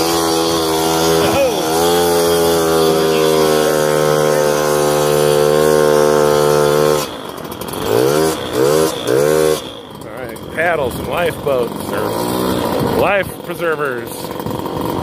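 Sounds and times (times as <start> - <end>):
small two-stroke engine revving: 0.0 - 15.0.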